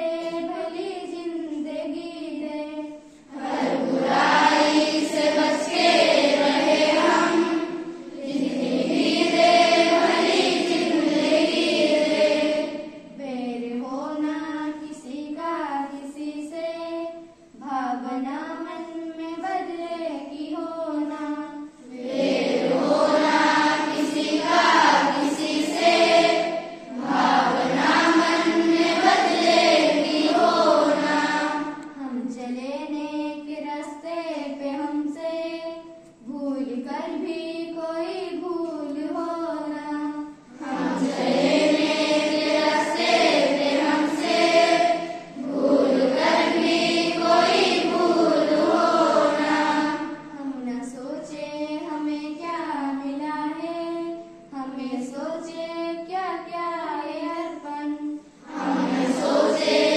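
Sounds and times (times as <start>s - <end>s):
children singing into a microphone: 0.0s - 59.9s.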